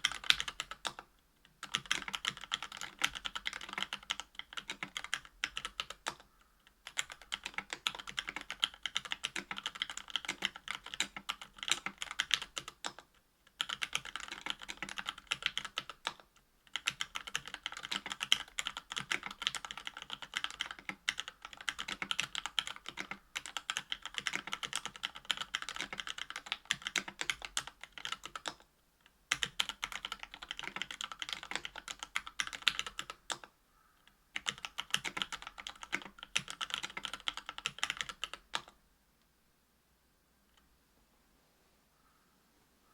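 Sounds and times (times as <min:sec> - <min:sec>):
fast typing on mechanical keyboard: 0:00.0 - 0:01.0, 0:01.6 - 0:28.6, 0:29.3 - 0:33.5, 0:34.4 - 0:38.8.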